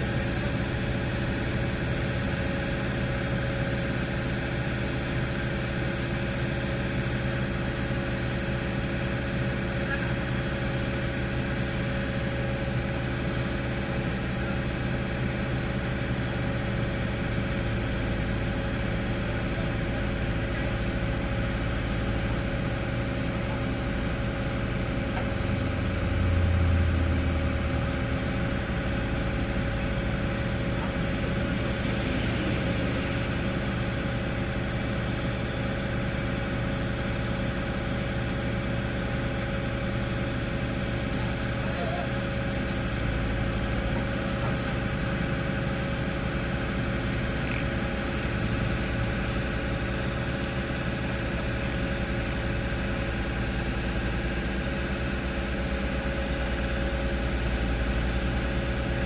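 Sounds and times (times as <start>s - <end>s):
mini excavator diesel engine running: 0.0s - 59.0s.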